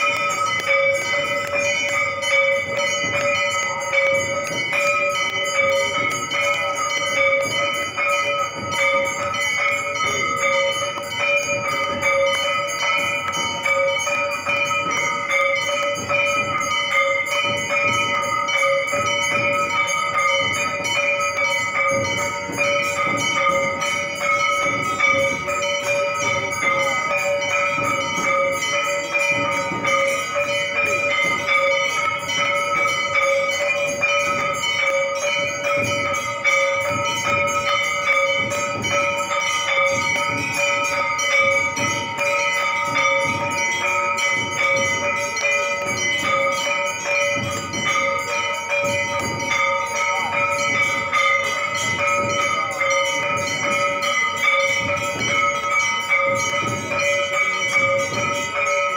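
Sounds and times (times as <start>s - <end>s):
temple bells rung rapidly: 0.0s - 58.9s.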